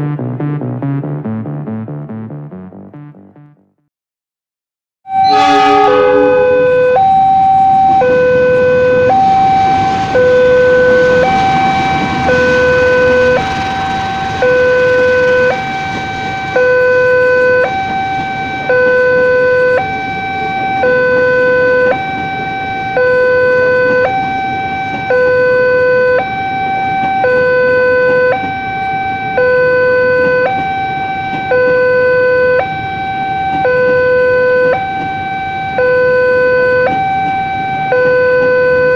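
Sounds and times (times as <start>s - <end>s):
two-tone level-crossing alarm: 5.1s - 38.9s.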